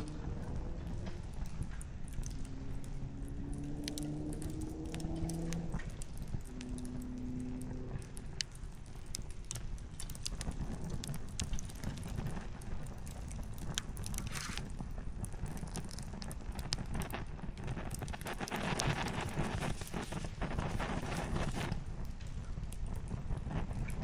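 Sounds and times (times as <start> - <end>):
campfire crackling: 0.0 - 24.0
low steady rumble: 0.0 - 24.0.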